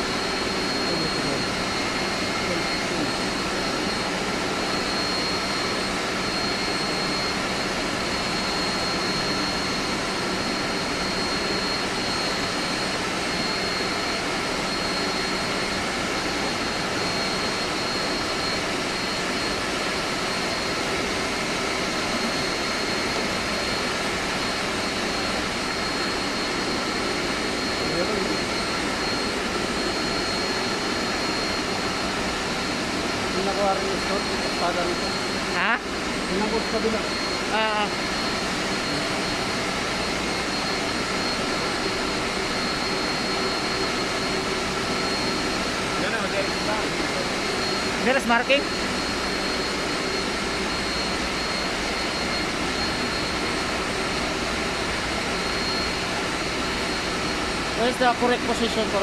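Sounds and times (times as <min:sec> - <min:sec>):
air conditioning machinery roar: 0:00.0 - 0:59.0
constant high whine: 0:00.0 - 0:59.0.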